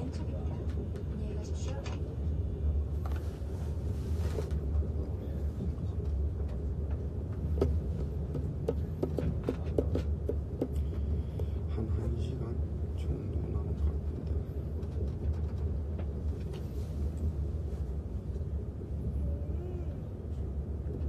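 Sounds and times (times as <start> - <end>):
train carriage rumble: 0.0 - 21.0.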